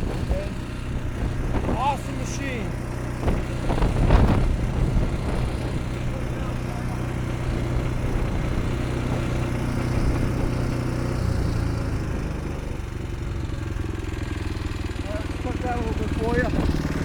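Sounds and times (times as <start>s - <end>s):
snowblower engine running: 0.0s - 17.0s.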